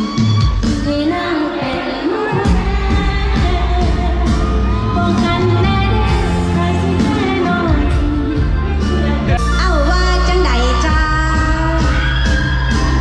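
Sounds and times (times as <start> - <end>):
pop band playing: 0.0 - 13.0
bass line: 2.3 - 13.0.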